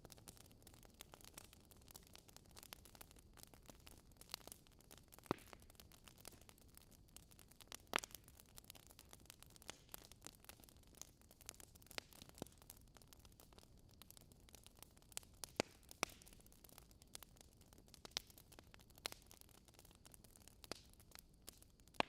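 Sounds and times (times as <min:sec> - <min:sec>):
logs crackling in fireplace: 0:00.0 - 0:22.0
sharp pops of burning wood: 0:00.1 - 0:22.0.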